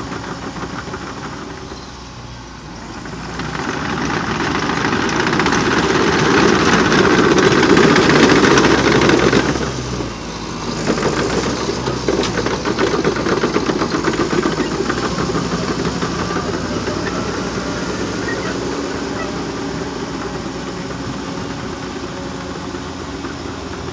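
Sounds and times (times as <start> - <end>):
bulldozer diesel engine running: 0.0 - 23.9
fast clatter: 0.0 - 23.9.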